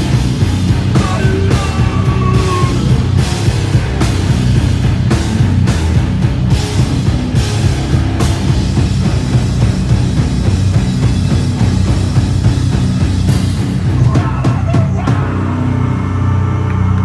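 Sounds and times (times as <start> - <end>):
live rock band playing: 0.0 - 16.6
drum kit pounding: 0.0 - 17.0.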